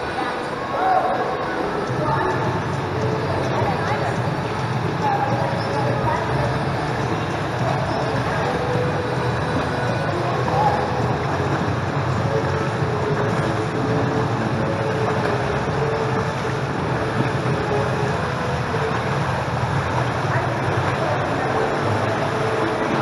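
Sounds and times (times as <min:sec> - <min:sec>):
low constant hum: 0:00.0 - 0:23.0
water splashing and lapping: 0:00.0 - 0:23.0.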